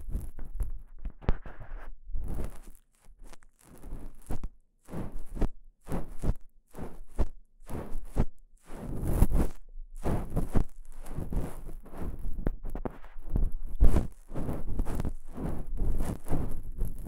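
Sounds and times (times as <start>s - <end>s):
ear pick scraping close up: 1.3s - 17.0s.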